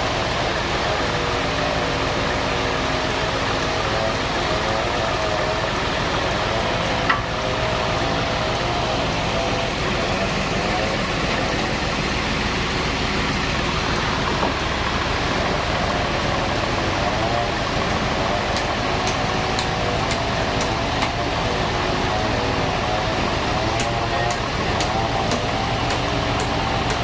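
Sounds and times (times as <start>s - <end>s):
band sawmill running: 0.0s - 27.0s.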